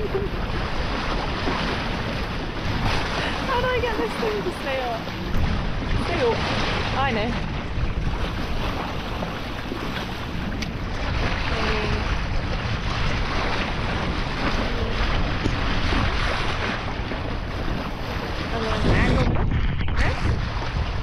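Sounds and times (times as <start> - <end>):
water washing along hull: 0.0 - 21.0
wind buffeting microphone: 0.0 - 21.0.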